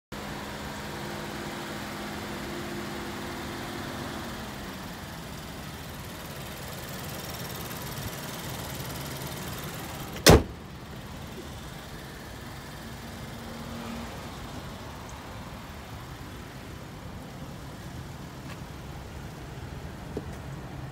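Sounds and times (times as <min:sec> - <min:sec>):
low vehicle hum: 0:00.1 - 0:20.9.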